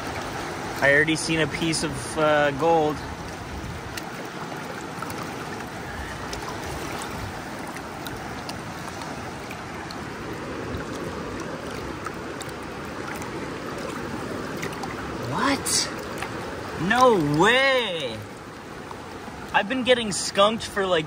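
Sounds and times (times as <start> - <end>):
creek flowing over rocks: 0.0 - 21.0
water swirling in a plastic pan: 3.2 - 20.4.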